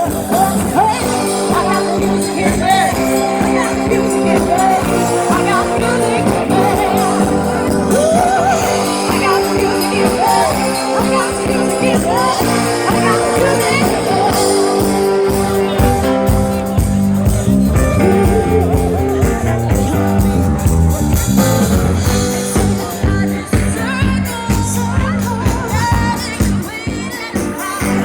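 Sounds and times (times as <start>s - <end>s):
person singing: 0.0s - 21.0s, 21.8s - 28.0s
rock band playing: 0.0s - 28.0s.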